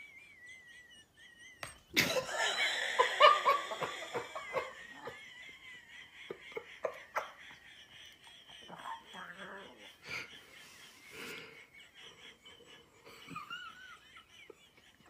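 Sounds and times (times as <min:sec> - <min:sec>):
person laughing: 0:00.0 - 0:15.0.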